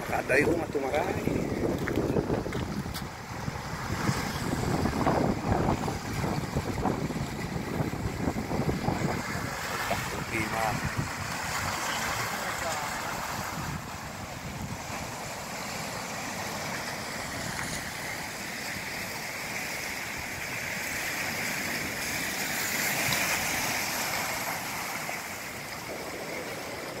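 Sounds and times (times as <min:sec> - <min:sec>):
sea surf washing against rocks: 0:00.0 - 0:27.0.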